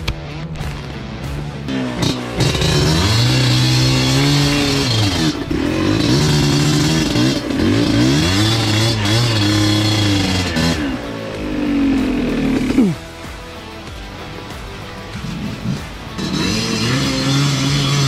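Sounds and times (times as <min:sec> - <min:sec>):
motorcycle engine revving: 0:00.0 - 0:13.4, 0:14.8 - 0:18.0.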